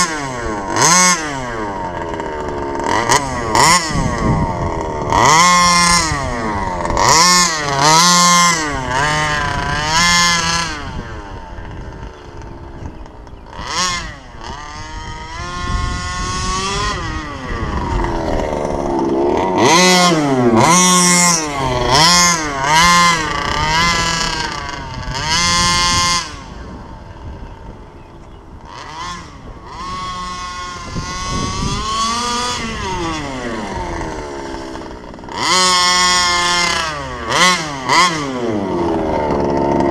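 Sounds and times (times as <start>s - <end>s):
model car engine revving: 0.0s - 39.9s.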